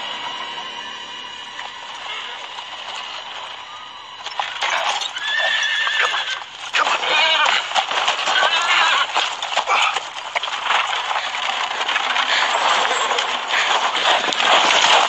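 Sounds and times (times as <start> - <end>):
horses galloping on dry ground: 0.0 - 15.0.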